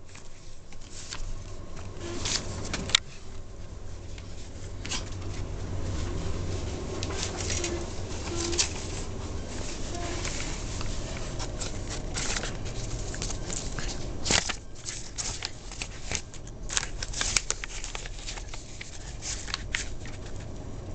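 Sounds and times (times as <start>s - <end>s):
paper crinkling and rustling: 0.0s - 20.9s.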